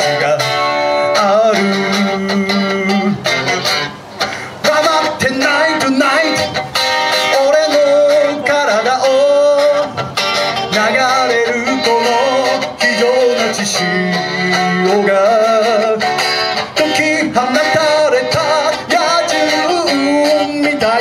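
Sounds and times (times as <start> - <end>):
electric guitar: 0.0 - 21.0
man singing: 0.0 - 21.0.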